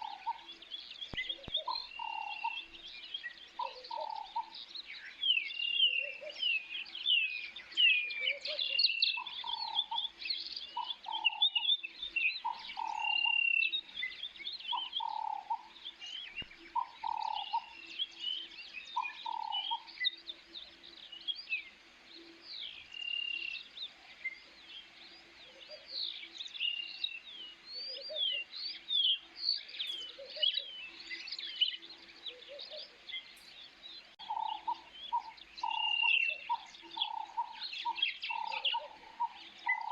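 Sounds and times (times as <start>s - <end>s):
birds chirping: 0.0s - 39.9s
low repeated bird call: 0.0s - 39.9s.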